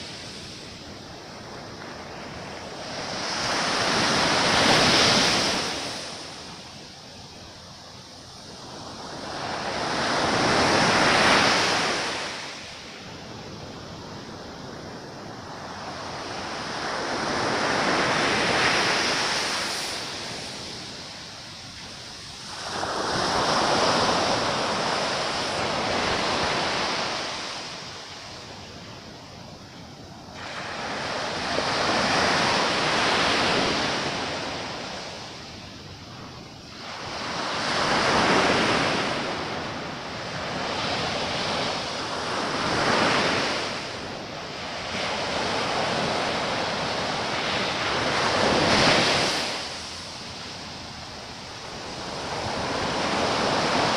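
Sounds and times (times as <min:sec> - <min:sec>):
sea waves breaking on shore: 0:00.0 - 0:06.9, 0:08.4 - 0:53.9.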